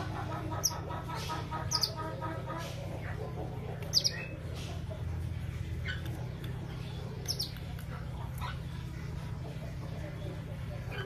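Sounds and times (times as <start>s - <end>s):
canary chirps: 0.0s - 11.0s
steady low hum: 0.0s - 11.0s.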